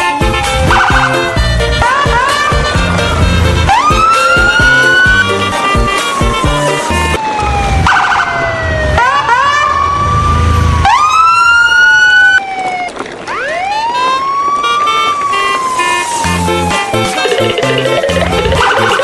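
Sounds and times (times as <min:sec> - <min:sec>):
siren wailing: 0:00.0 - 0:19.0.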